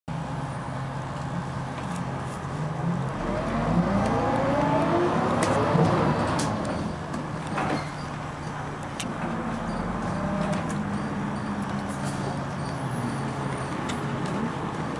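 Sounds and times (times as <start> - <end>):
bus diesel engine pulling hard: 0.1 - 14.9.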